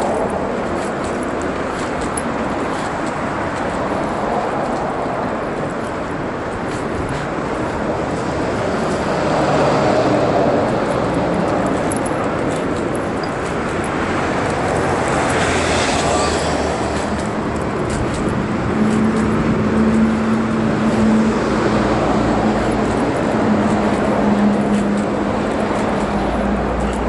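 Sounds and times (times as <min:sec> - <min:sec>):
road traffic noise: 0:00.0 - 0:27.0
vehicle passing: 0:00.0 - 0:27.0
wheelchair rolling on pavement: 0:00.0 - 0:27.0.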